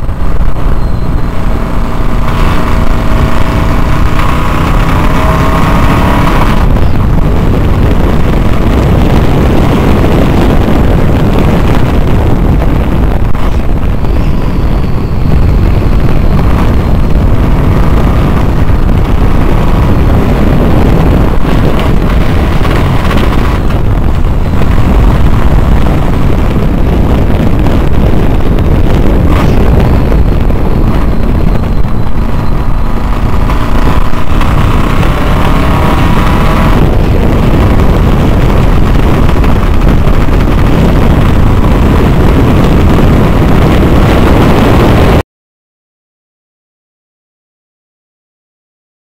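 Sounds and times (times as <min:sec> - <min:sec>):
supercharged car engine racing: 0:00.0 - 0:45.2
wind noise on microphone: 0:00.0 - 0:45.2.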